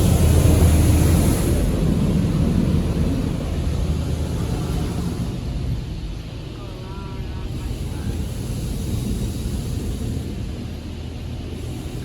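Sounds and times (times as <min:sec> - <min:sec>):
car wash machinery rumble: 0:00.0 - 0:12.0.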